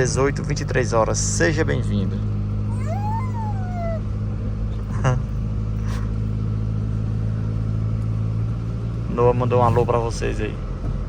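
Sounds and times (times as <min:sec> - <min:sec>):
low drone inside pickup cab: 0:01.4 - 0:11.0.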